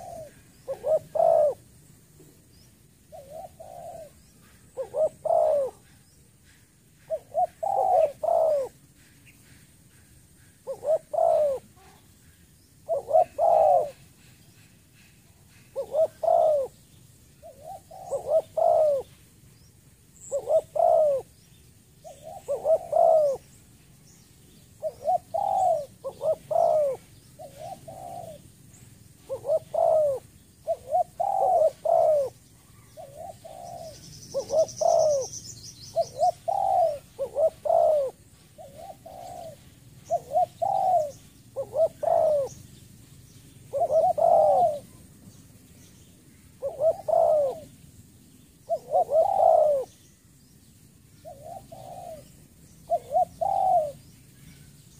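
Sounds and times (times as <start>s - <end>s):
dove cooing: 0.0s - 19.3s, 20.2s - 21.4s, 22.0s - 23.6s, 24.6s - 43.0s, 43.6s - 45.2s, 46.4s - 47.8s, 48.6s - 50.0s, 51.2s - 54.7s.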